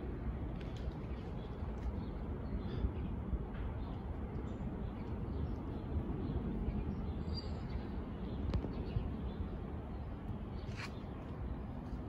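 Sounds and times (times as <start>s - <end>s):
jet airliner rumble overhead: 0.0s - 12.0s.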